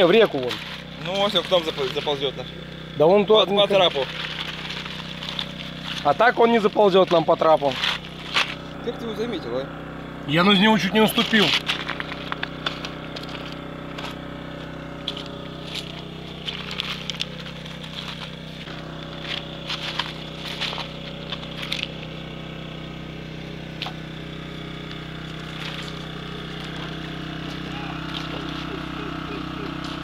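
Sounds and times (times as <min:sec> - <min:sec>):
low hum: 0:00.3 - 0:30.0.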